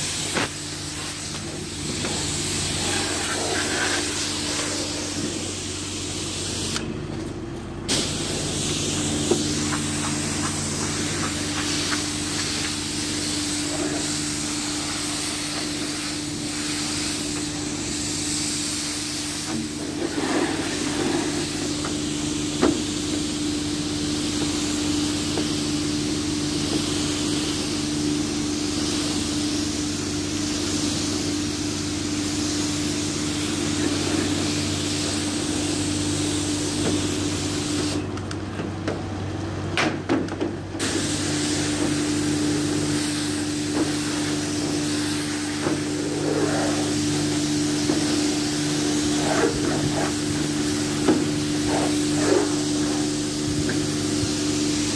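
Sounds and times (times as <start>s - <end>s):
pressure washer spraying water: 0.0s - 6.8s, 7.9s - 38.1s, 40.8s - 54.9s.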